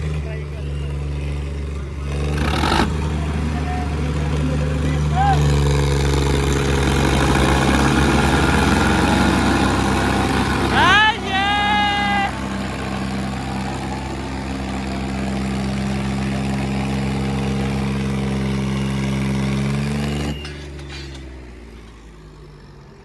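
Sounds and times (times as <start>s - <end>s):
tractor diesel engines under load: 0.0s - 23.0s.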